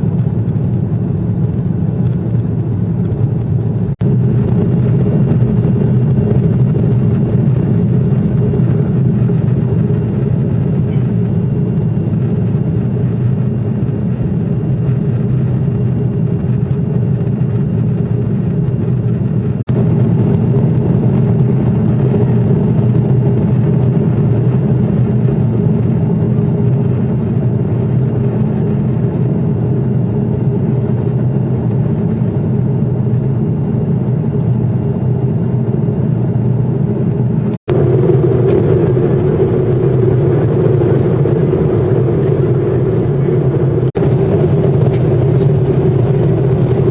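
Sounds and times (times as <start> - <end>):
jet engines and airflow rumble: 0.0 - 46.9.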